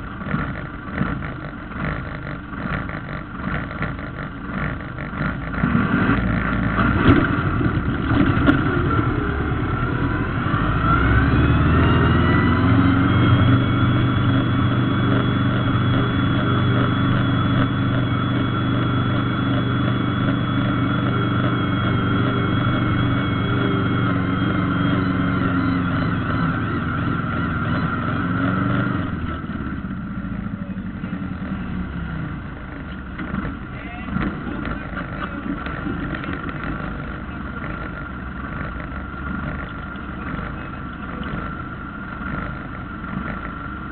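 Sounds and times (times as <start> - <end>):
tractor diesel engine revving: 0.0 - 43.9
whine: 0.0 - 43.9.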